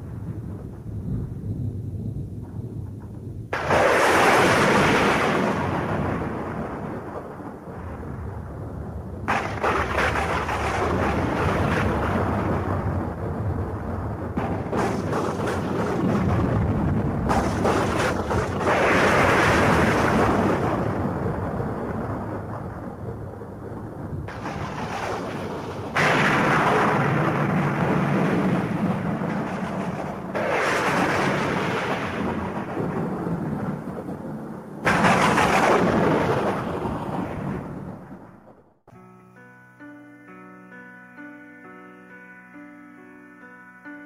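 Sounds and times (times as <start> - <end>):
rain: 0.0 - 38.8
thunder rumbling: 0.0 - 38.9.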